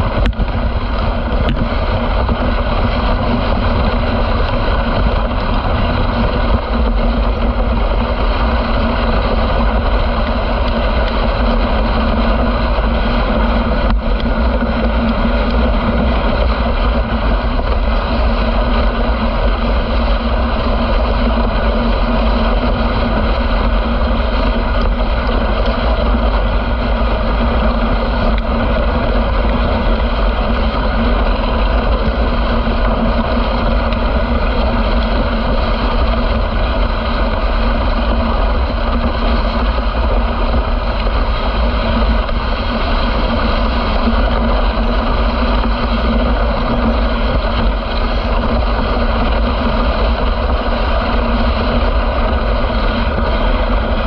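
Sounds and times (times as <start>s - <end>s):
low rumble: 0.0s - 54.0s
sled runners rushing on snow: 0.0s - 54.0s.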